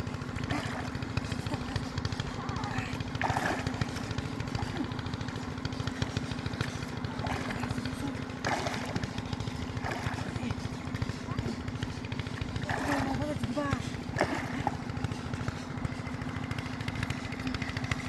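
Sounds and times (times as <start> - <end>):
small boat engine running: 0.0 - 18.0.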